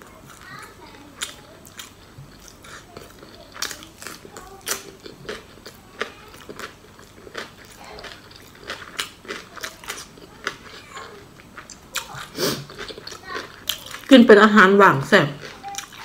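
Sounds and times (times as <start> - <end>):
crisp food chewing crunches: 0.1 - 14.1, 15.4 - 16.0.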